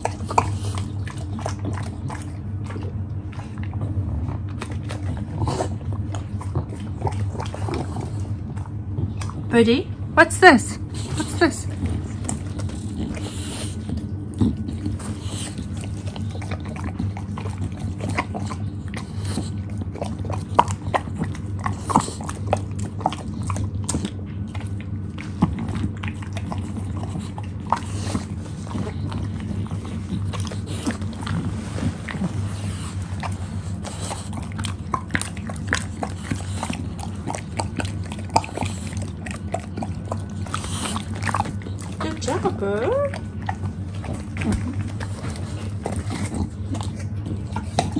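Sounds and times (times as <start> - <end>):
dog crunching apple: 0.0 - 9.6, 10.9 - 47.9
steady low hum: 0.0 - 47.9.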